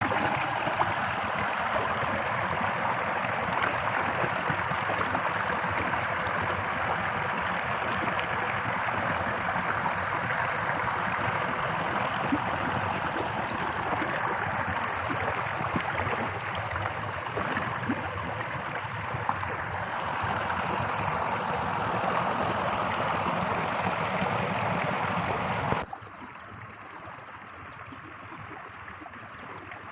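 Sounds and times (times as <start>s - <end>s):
water rushing and gurgling: 0.0s - 29.9s.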